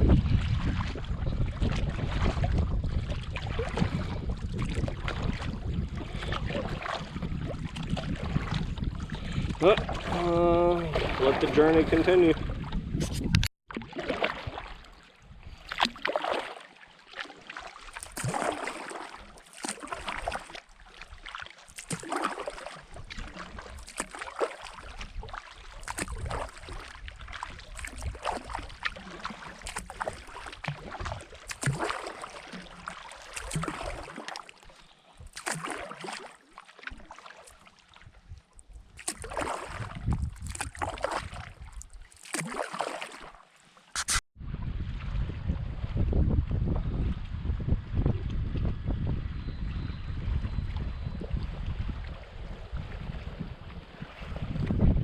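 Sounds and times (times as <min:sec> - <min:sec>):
paddle pulling through water: 0:00.0 - 0:55.0
water lapping against hull: 0:00.0 - 0:55.0.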